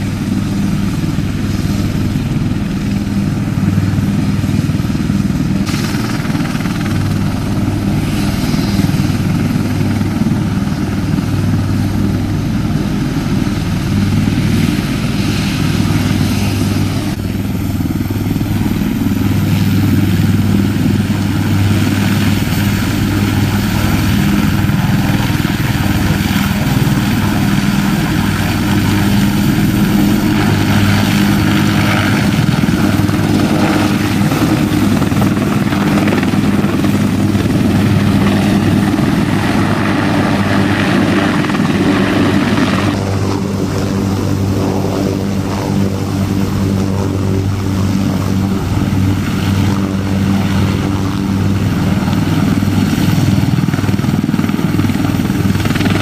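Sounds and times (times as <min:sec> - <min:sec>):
helicopter rotors beating: 0:00.0 - 0:56.0
turbine engine whine: 0:00.0 - 0:56.0.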